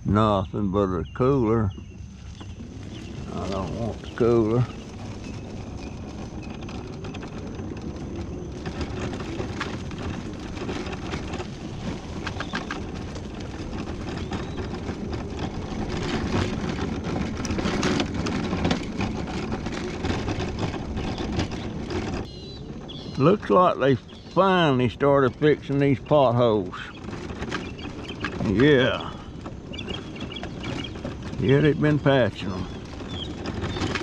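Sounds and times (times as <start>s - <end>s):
rattles over bumps: 0.0s - 34.0s
mobility scooter motor humming: 0.6s - 34.0s.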